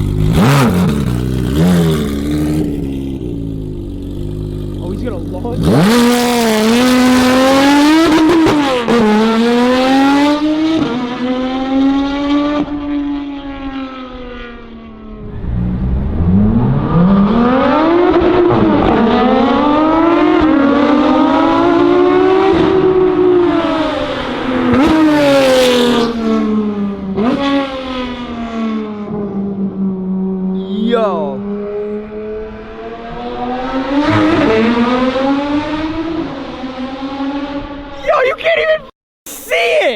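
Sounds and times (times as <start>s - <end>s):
sports car engine accelerating: 0.0s - 30.8s, 31.4s - 38.0s.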